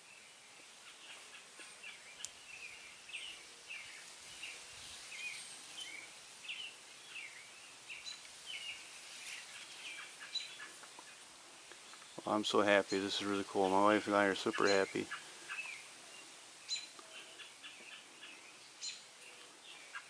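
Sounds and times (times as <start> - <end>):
faint outdoor hiss: 0.0 - 20.0
small birds chirping: 0.0 - 20.0.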